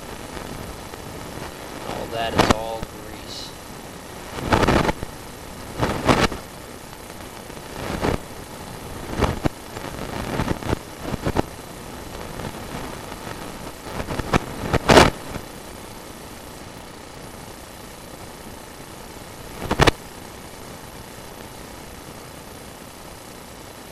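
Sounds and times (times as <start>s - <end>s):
steady running hum: 0.0s - 23.9s.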